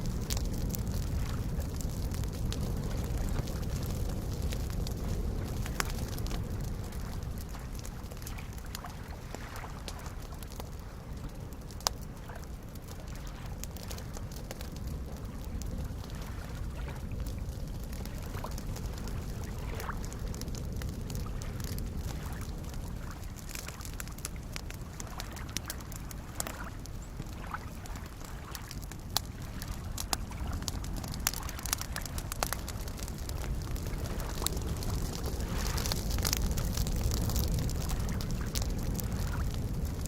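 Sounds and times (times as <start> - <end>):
campfire crackling and popping: 0.0 - 40.0
soft lake waves: 0.0 - 40.0.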